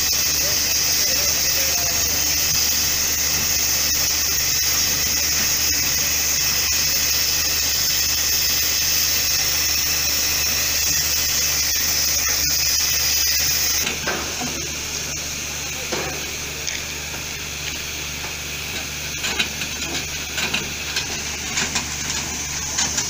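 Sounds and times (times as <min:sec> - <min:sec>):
steam hissing from locomotive: 0:00.0 - 0:23.0.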